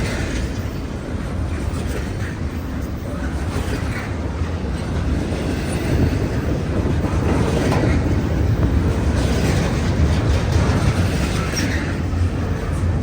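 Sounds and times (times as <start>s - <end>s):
freight train rumbling over rails: 0.0s - 13.0s.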